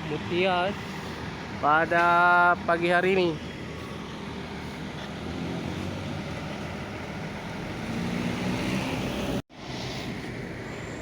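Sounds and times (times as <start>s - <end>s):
bus diesel engine running: 0.0s - 8.2s, 9.0s - 11.0s
road and wind rumble: 0.0s - 11.0s.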